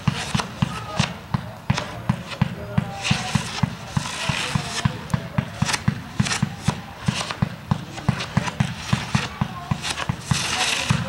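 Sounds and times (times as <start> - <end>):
fireworks firing rapid volley: 0.0 - 11.0.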